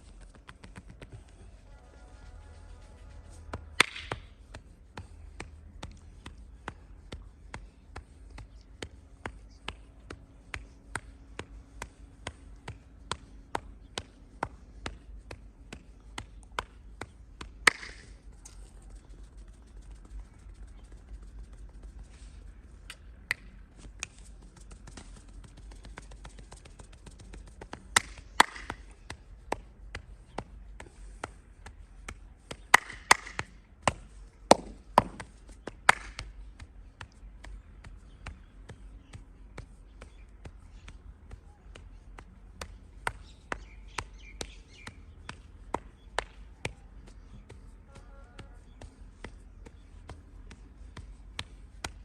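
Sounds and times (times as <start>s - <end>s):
hand slaps and taps on body: 3.5s - 20.1s, 22.8s - 52.0s.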